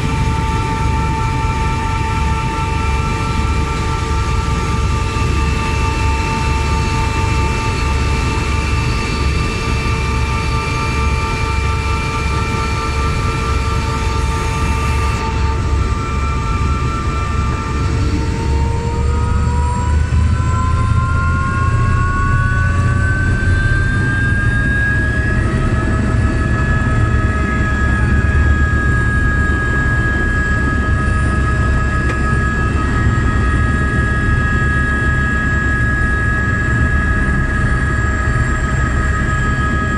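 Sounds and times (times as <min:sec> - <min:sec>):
helicopter turbine engine: 0:00.0 - 0:39.9.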